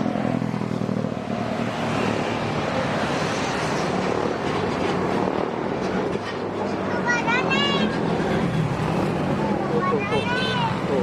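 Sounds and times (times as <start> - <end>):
tyre and road noise: 0.0 - 11.0.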